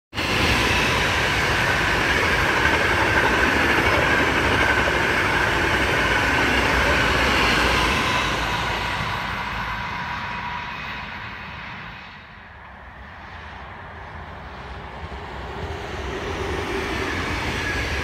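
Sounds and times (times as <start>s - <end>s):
train wheels rushing on rail: 0.1s - 18.0s.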